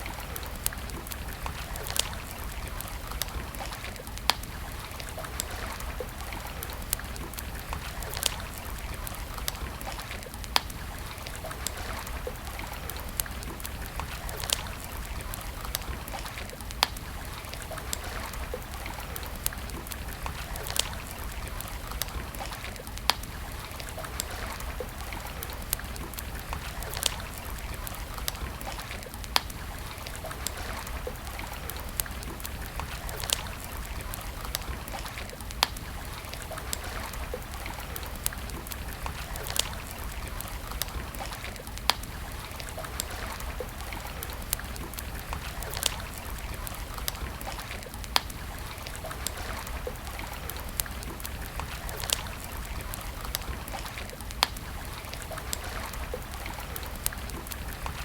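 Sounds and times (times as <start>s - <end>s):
campfire crackling: 0.0s - 58.0s
fire popping: 0.0s - 58.0s.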